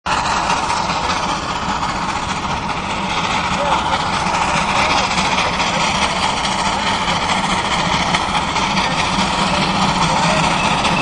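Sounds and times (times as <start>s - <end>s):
steam locomotive rumble and hiss: 0.0s - 11.0s.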